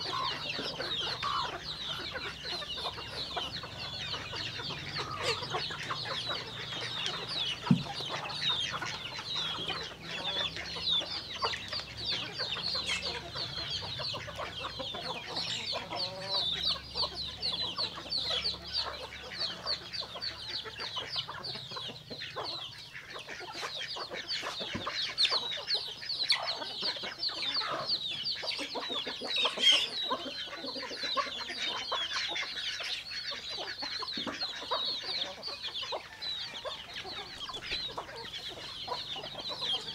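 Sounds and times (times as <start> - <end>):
chickens peeping and clucking: 0.0 - 39.9.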